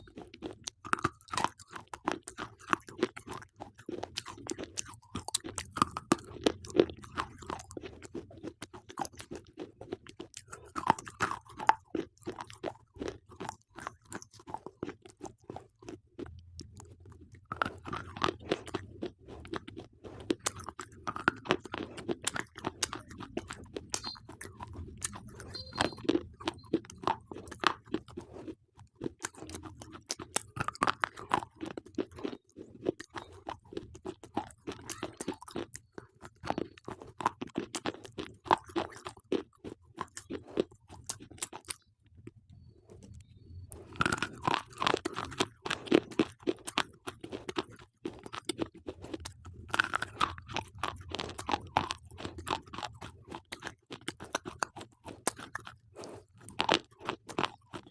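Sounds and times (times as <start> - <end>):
chewing slate pencils crunching: 0.0 - 57.9.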